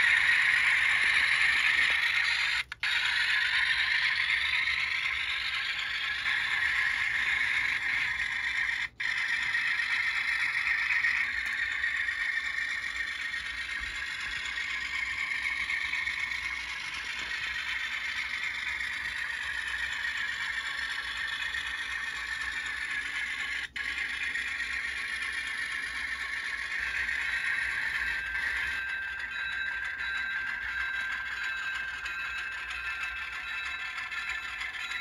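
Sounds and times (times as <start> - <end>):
model train motor whirring: 0.0 - 35.0
wheels clattering on rails: 0.0 - 35.0.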